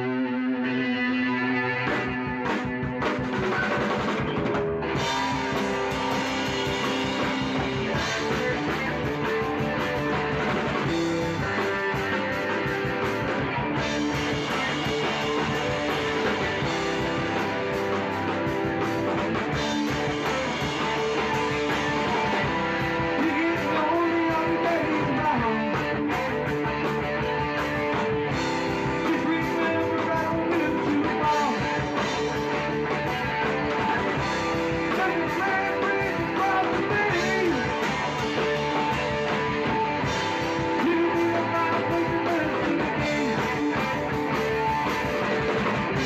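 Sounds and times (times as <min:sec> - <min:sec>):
rock band music: 0:00.0 - 0:46.0.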